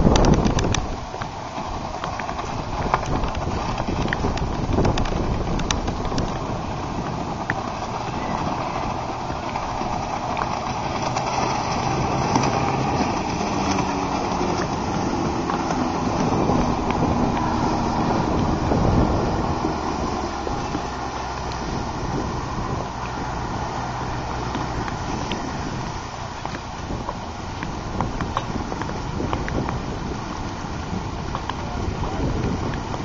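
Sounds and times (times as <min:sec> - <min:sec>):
outboard motor humming: 0:00.0 - 0:33.0
wind noise on microphone: 0:00.0 - 0:33.0.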